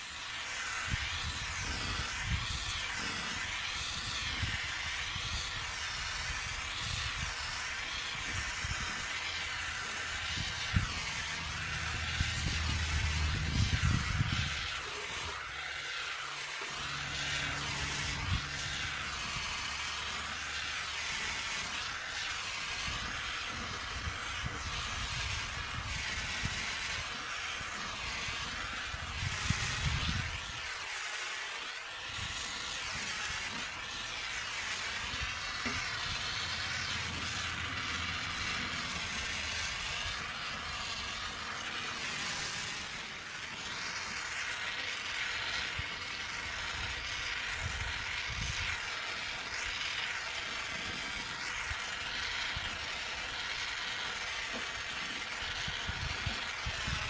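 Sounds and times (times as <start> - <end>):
gas torch hissing: 0.0 - 57.0.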